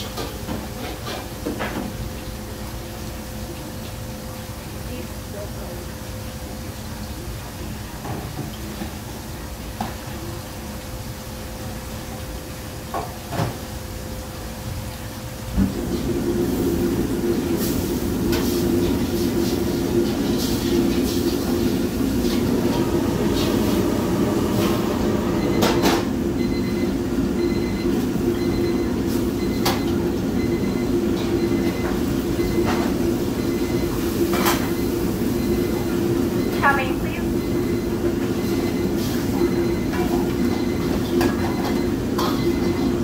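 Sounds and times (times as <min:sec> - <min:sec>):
gas burner flame roaring: 0:00.0 - 0:43.0.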